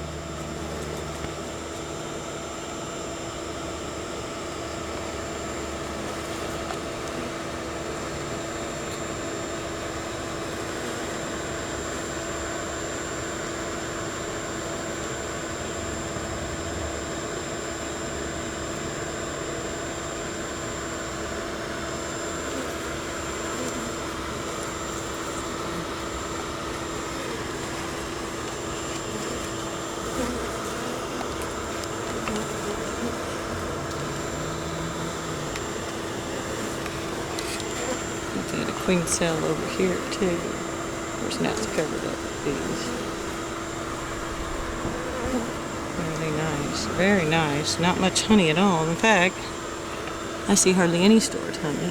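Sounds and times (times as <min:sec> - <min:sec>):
honeybee colony buzzing: 0:00.0 - 0:51.9.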